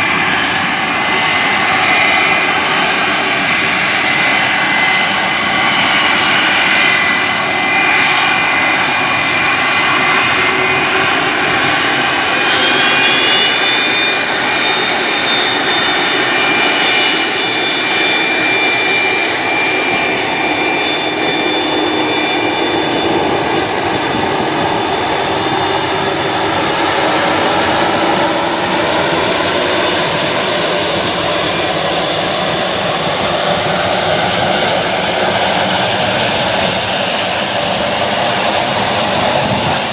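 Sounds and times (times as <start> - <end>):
high engine whine: 0.0 - 39.9
jet engines roaring: 0.0 - 39.9.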